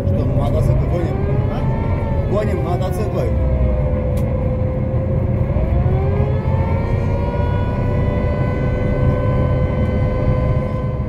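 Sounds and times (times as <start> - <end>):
engine and propeller drone: 0.0 - 11.0.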